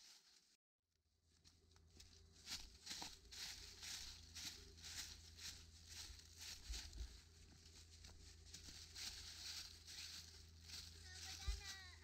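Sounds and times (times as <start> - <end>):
footsteps crunching through dry leaves: 0.0 - 0.5, 1.3 - 12.0.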